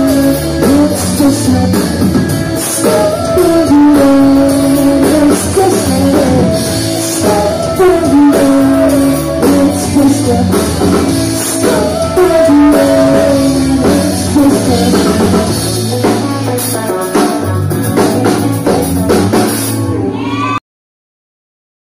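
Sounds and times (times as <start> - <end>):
person singing: 0.0 - 19.2
drum kit: 0.0 - 20.6
electric guitars: 0.0 - 20.6.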